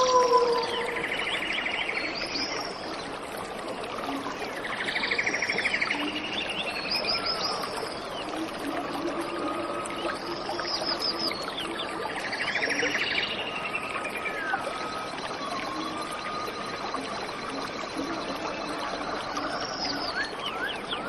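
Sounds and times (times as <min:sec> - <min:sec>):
birds singing: 0:00.0 - 0:03.4, 0:04.0 - 0:21.0.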